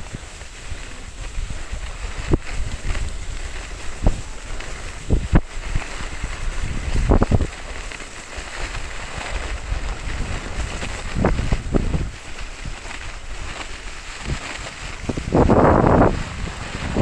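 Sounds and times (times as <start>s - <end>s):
skis sliding on snow: 0.0s - 17.0s
wind buffeting microphone: 0.0s - 17.0s.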